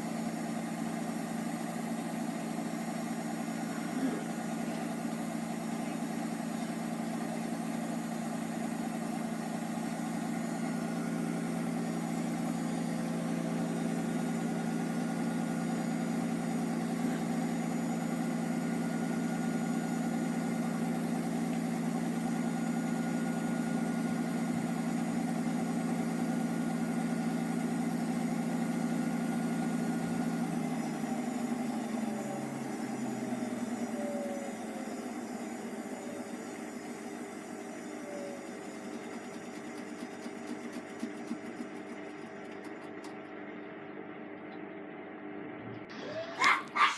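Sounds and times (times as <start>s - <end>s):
washing machine drum motor humming: 0.0s - 46.9s.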